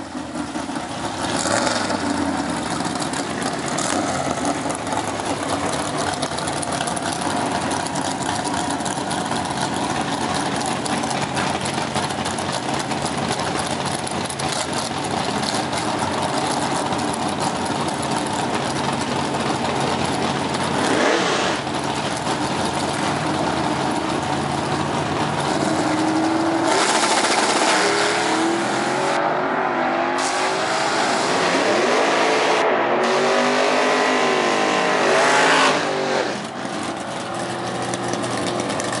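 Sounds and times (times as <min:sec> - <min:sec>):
drag racing engines at full throttle: 0:00.0 - 0:39.0.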